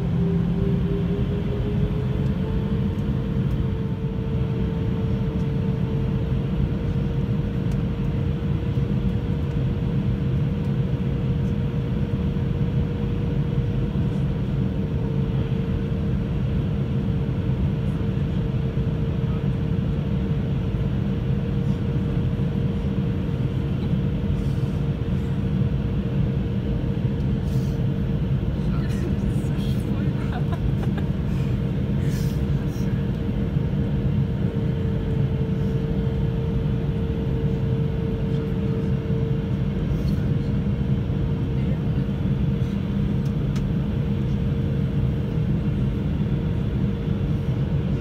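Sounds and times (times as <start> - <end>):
airflow rumble: 0.0 - 48.0
airplane engine drone: 0.0 - 48.0
engine whine: 0.0 - 48.0.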